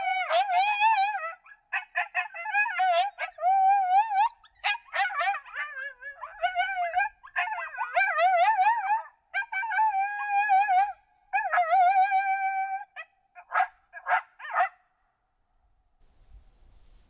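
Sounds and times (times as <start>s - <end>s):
coyotes howling and yipping: 0.0s - 14.7s.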